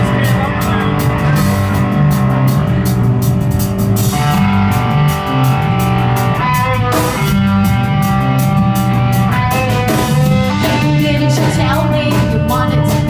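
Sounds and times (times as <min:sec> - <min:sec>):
bass guitar: 0:00.0 - 0:13.0
drum kit: 0:00.0 - 0:13.0
electric guitar: 0:00.0 - 0:13.0.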